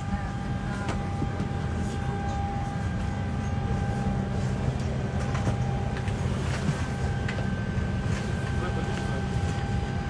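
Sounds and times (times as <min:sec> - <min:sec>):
airliner cabin systems drone: 0:00.0 - 0:10.0
thin steady whine: 0:00.0 - 0:10.0.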